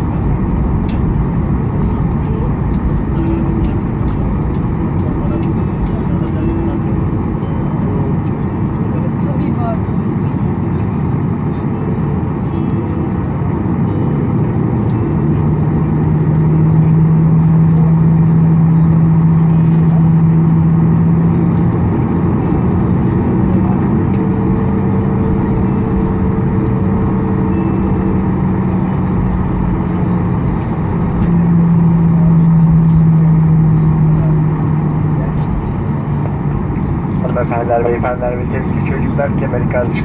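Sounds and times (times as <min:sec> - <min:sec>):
airplane engines rumbling: 0:00.0 - 0:40.0
low hum: 0:00.0 - 0:40.0.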